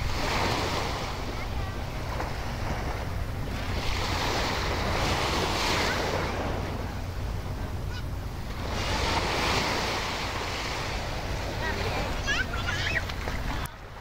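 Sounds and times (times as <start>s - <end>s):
surf washing onto beach: 0.0s - 14.0s
wind rumble on microphone: 0.0s - 14.0s.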